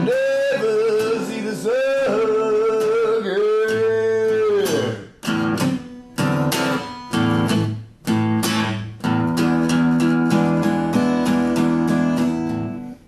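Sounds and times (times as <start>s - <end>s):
acoustic guitar chords strummed: 0.0s - 13.0s.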